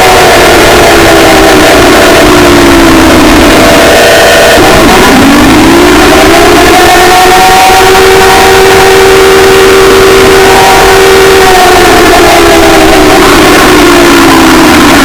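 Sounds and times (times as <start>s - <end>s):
loud emergency siren: 0.0s - 15.0s.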